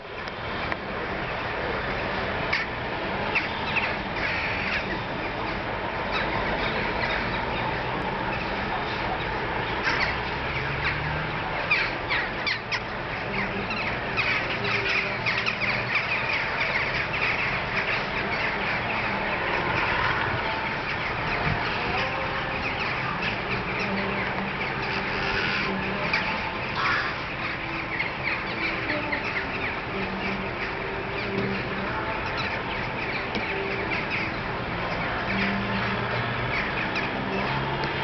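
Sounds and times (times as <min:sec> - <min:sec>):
flock of birds calling: 0:00.0 - 0:38.0.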